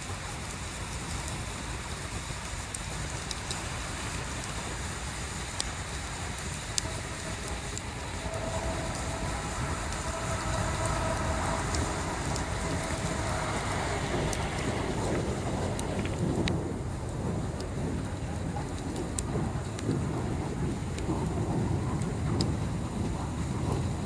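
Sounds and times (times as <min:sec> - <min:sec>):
bonfire crackling and popping: 0:00.0 - 0:24.0
low fire rumble: 0:00.0 - 0:24.0
faint steady hum: 0:03.5 - 0:24.0.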